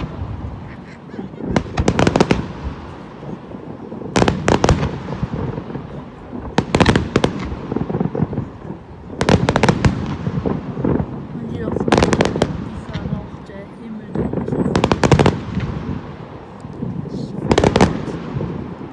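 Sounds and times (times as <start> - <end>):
continuous low rumble: 0.0 - 18.9
fireworks bangs: 0.0 - 18.9.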